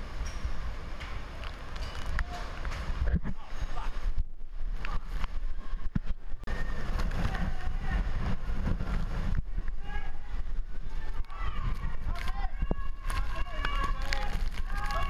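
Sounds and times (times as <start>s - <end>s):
driving rain hissing: 0.0s - 15.0s
floodwater: 0.0s - 15.0s
wind buffeting microphone: 0.0s - 15.0s.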